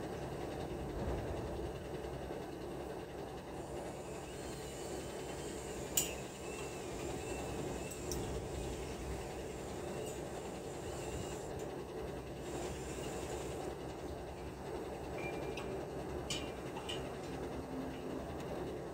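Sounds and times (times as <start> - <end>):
low background rumble: 0.0 - 4.7, 6.4 - 18.9.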